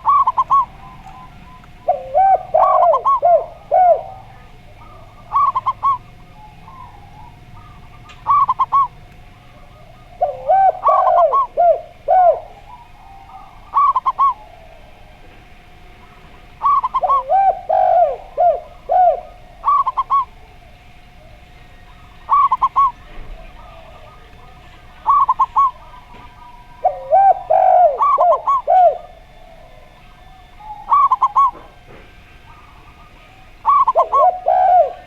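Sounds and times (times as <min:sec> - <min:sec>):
dove cooing high notes: 0:00.0 - 0:35.0
dove cooing low notes: 0:00.0 - 0:35.0
faint steady tone: 0:00.0 - 0:35.0.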